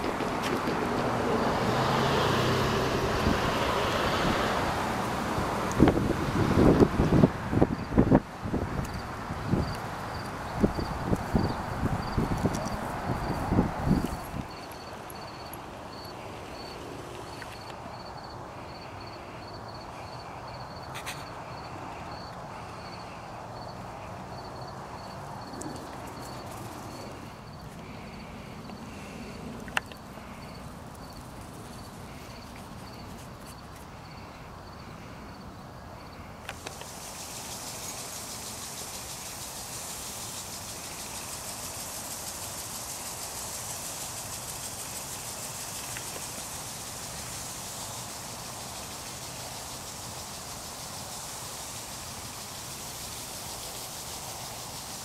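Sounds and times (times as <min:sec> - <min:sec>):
distant road traffic: 0:00.0 - 0:55.0
steady high hiss: 0:00.0 - 0:55.0.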